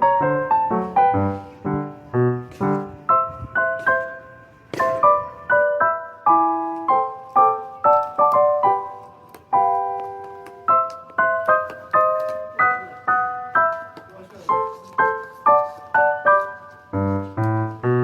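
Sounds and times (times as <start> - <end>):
piano playing chords: 0.0 - 18.0.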